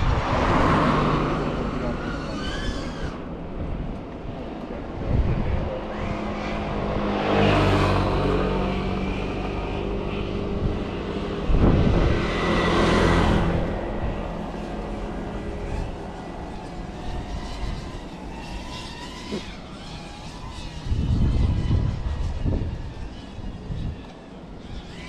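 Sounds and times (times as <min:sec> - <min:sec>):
motors passing close by: 0:00.0 - 0:25.0.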